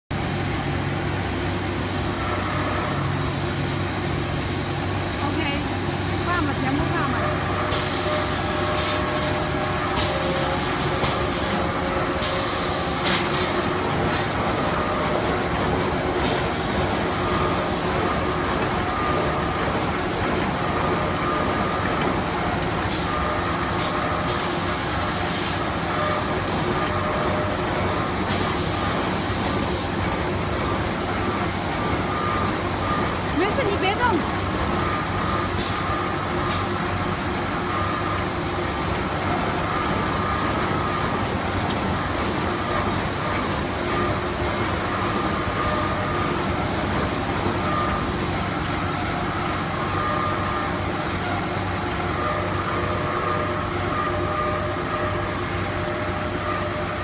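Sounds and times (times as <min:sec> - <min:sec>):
band saw cutting machine running: 0:00.1 - 0:57.0.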